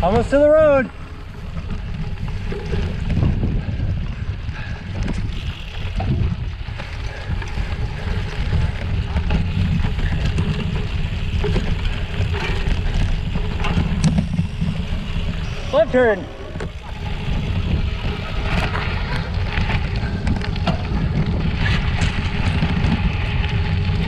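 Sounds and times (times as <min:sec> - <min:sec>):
bike rolling and rattling on gravel: 0:00.0 - 0:24.0
wind buffeting microphone: 0:00.0 - 0:24.0.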